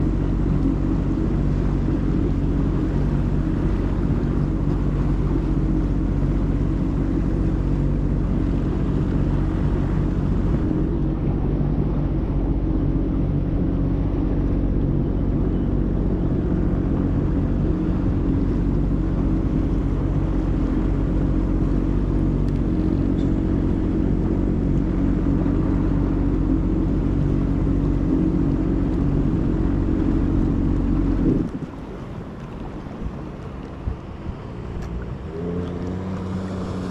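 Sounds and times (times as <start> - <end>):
jet ski engine drone: 0.0 - 36.9.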